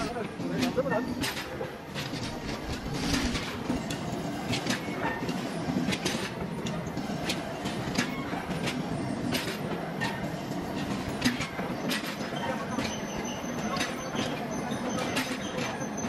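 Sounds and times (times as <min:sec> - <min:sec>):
workshop machinery noise: 0:00.0 - 0:16.0.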